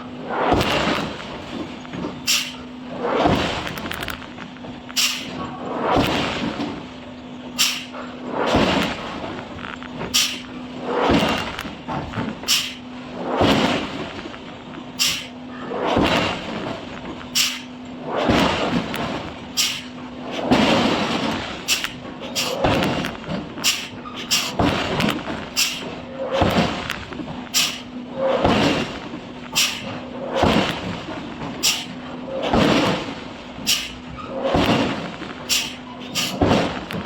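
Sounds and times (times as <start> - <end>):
steady machine hum: 0.0 - 37.0.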